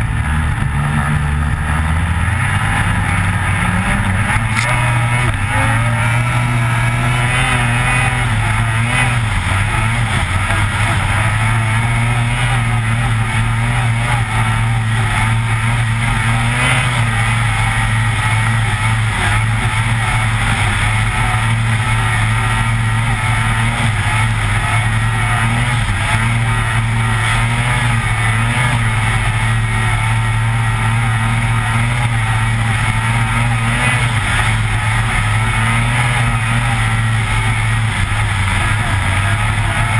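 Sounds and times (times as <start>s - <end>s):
snowmobile engine running hard: 0.0s - 39.9s.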